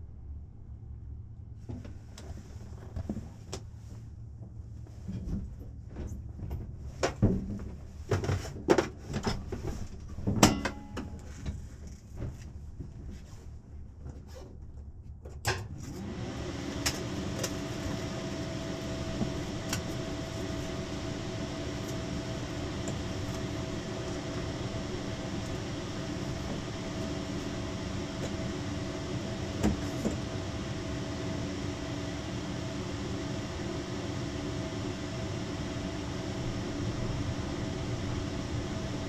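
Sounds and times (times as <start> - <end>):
steady hum with whine: 0.0 - 39.0.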